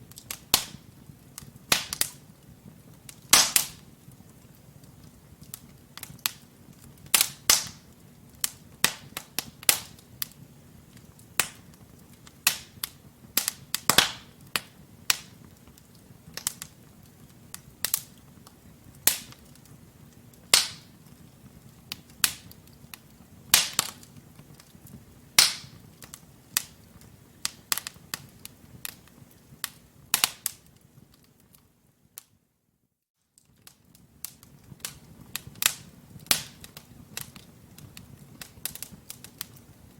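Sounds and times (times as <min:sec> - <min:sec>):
logs crackling in fireplace: 0:00.0 - 0:32.4, 0:33.2 - 0:39.9
low steady flames: 0:00.0 - 0:39.9.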